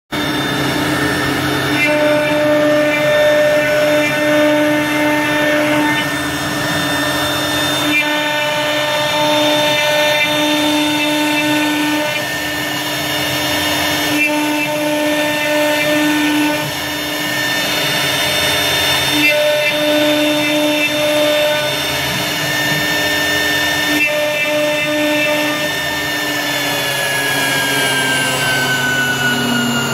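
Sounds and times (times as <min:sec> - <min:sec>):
wood router cutting: 0:00.1 - 0:29.9
humming tones: 0:00.2 - 0:29.9.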